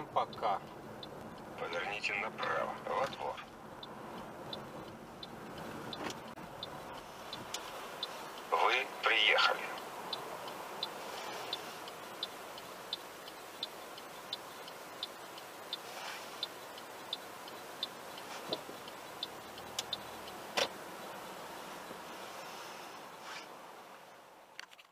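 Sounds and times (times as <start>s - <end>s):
car indicator ticking: 0.0s - 22.1s
car cabin noise: 0.0s - 24.9s.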